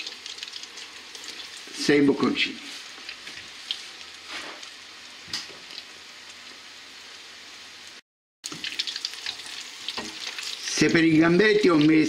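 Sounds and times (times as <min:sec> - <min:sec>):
deep-frying sizzle and crackles: 0:00.0 - 0:12.0.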